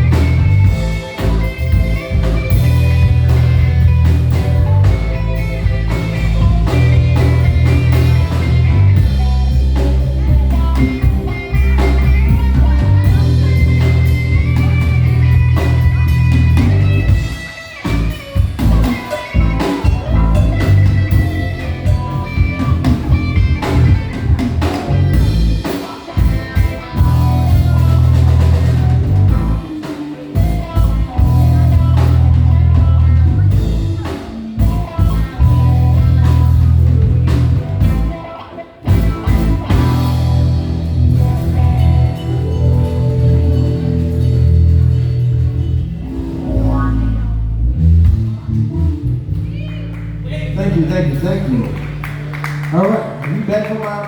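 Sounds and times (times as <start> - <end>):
live band playing instrumental: 0.0 - 54.0.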